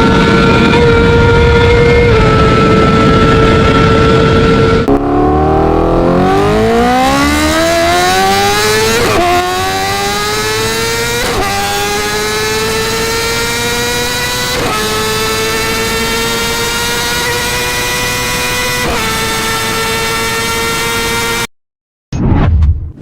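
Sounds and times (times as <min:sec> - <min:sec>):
motorcycle engine revving: 0:00.0 - 0:21.5.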